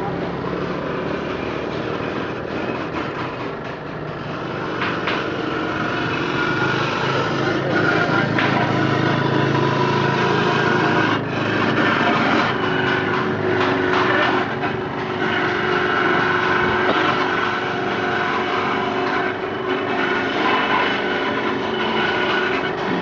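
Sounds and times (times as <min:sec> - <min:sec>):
press machine motor running: 0:00.0 - 0:23.0.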